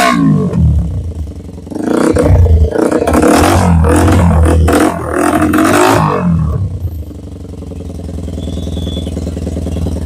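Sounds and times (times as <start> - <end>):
motorcycle engine revving and idling: 0.0 - 10.0.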